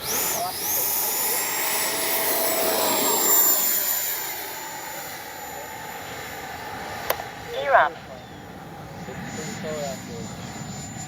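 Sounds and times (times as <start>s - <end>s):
rc jet fan whining: 0.0s - 11.0s.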